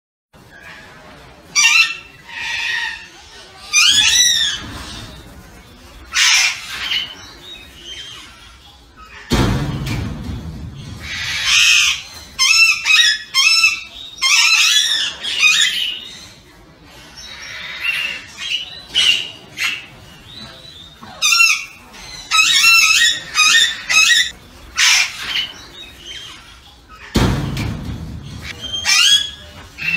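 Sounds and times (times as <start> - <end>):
parakeets squawking: 1.5 - 5.2, 6.0 - 9.3, 10.8 - 16.4, 17.1 - 27.2, 28.4 - 29.9.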